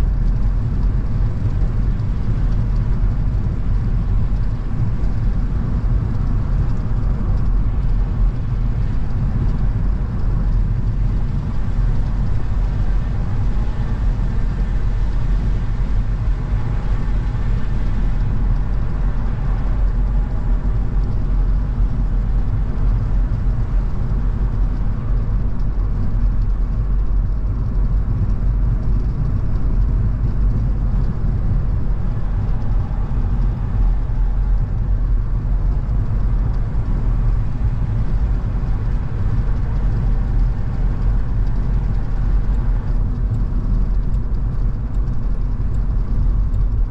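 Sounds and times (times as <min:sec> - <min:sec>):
car driving low rumble: 0:00.0 - 0:46.9.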